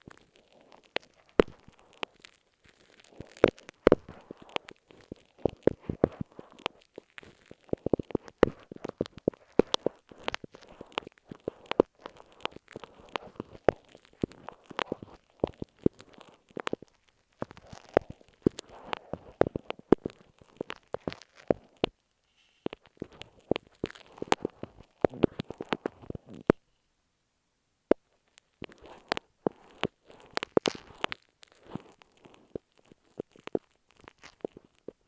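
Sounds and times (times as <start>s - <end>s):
crackling taps and scratches on mic: 0.0s - 26.8s, 27.9s - 35.0s.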